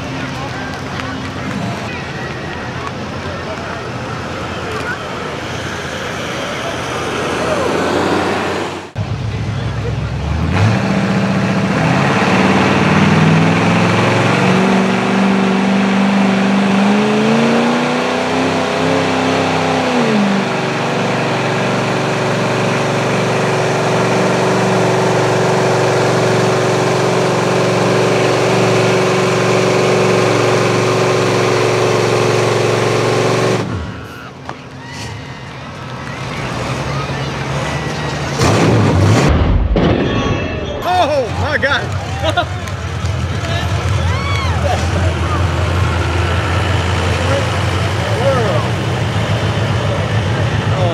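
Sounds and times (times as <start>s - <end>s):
pickup engine running hard: 0.0s - 34.8s, 40.9s - 50.9s.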